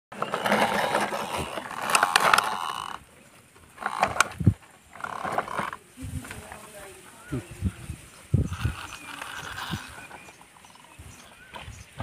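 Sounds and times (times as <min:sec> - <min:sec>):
toy truck scraping over gravel: 0:00.1 - 0:06.9, 0:08.3 - 0:12.0.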